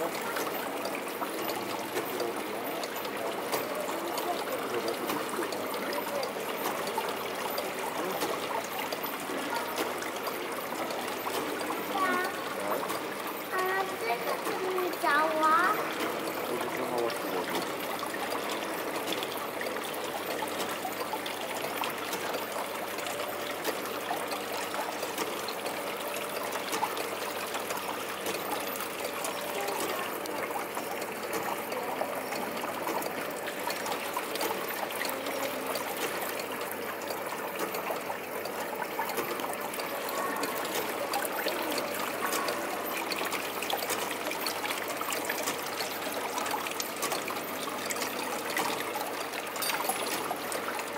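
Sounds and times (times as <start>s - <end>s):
water trickling: 0.0s - 50.9s.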